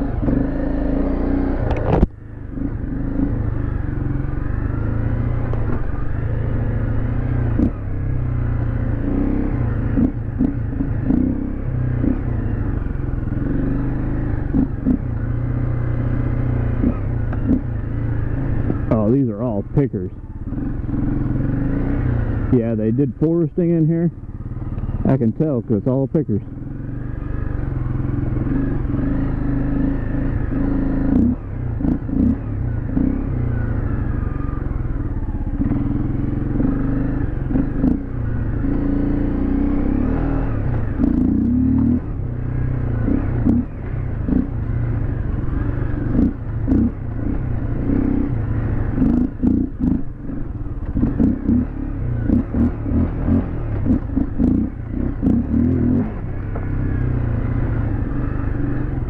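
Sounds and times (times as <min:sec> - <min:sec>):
dirt bike engine blipping: 0:00.0 - 0:59.0.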